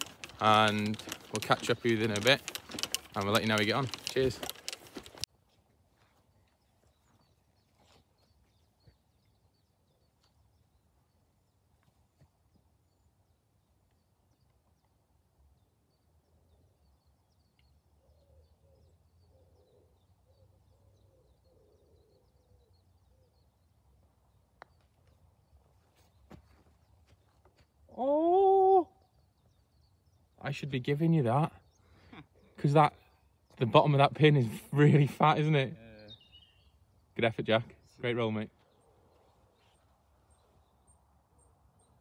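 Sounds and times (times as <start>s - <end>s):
faint birdsong: 0.0s - 42.0s.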